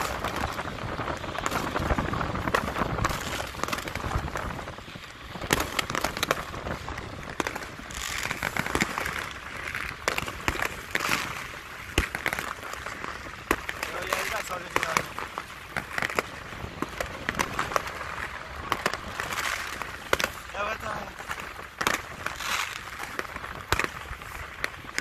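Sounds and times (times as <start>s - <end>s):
fireworks bangs and pops: 0.0s - 25.0s
fireworks crackling: 0.0s - 25.0s.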